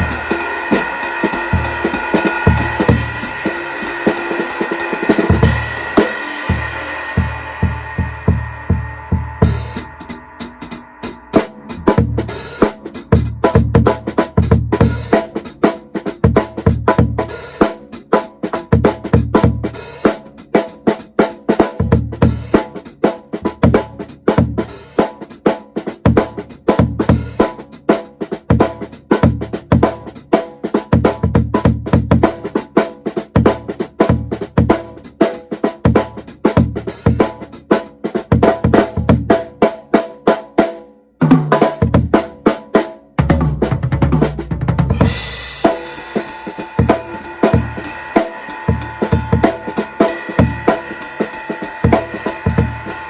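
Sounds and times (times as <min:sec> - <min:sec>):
drum kit groove: 0:00.0 - 0:53.0.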